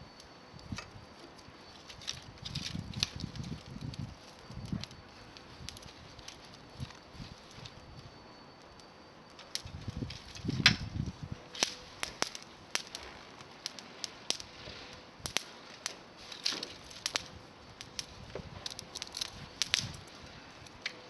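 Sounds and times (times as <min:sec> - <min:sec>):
dry twigs snapping: 0:01.8 - 0:07.8, 0:09.3 - 0:21.0.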